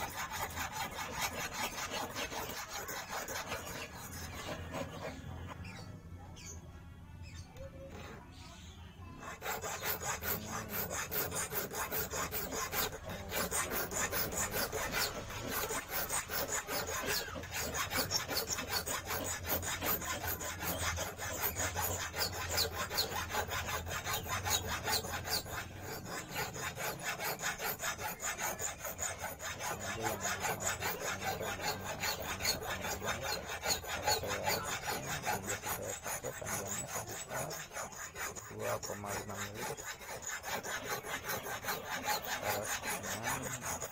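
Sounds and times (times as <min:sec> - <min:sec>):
hand file scraping wire: 0:00.0 - 0:05.8, 0:07.3 - 0:43.9.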